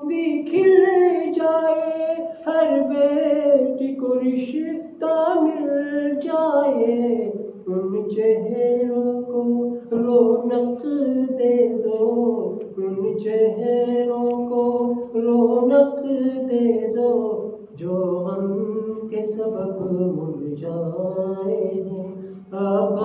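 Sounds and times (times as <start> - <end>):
man chanting unaccompanied: 0.0 - 23.0.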